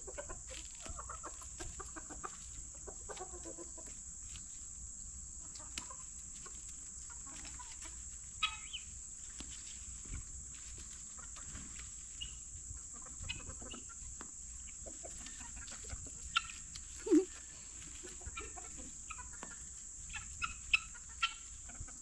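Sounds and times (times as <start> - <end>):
chickens and guinea fowl clucking: 0.0 - 22.0.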